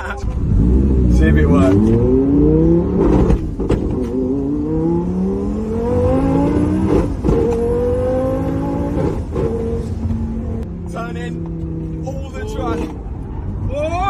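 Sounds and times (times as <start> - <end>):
car engine accelerating: 0.0 - 13.6.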